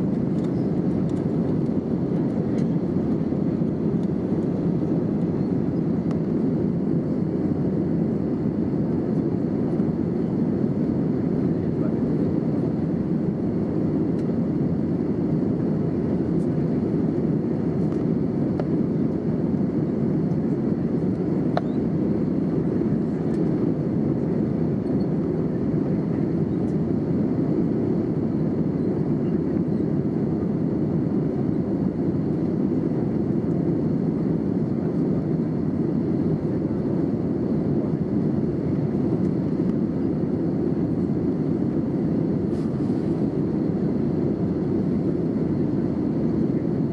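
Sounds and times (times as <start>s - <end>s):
airplane cabin drone: 0.0s - 46.9s.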